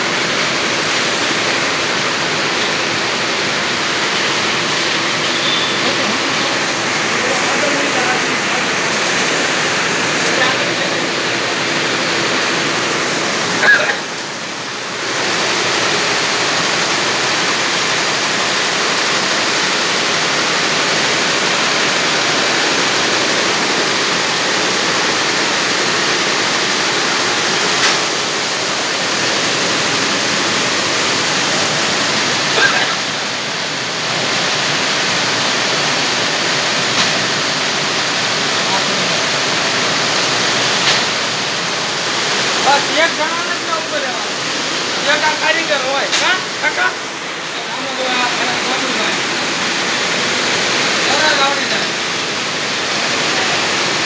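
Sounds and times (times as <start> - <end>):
rushing machine noise: 0.0 - 54.0.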